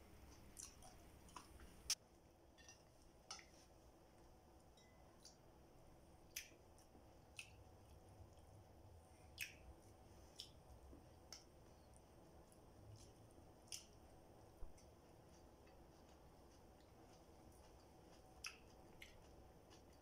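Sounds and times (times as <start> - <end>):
person chewing food: 0.2 - 5.5, 6.2 - 20.0.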